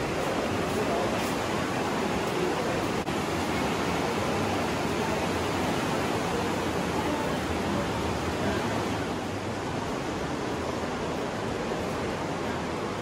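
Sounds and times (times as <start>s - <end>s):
river rushing through gorge: 0.0s - 13.0s.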